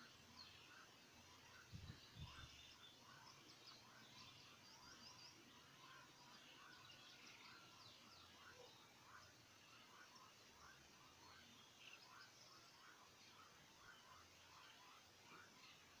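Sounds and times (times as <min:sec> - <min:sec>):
birds chirping and warbling: 0:00.0 - 0:16.0.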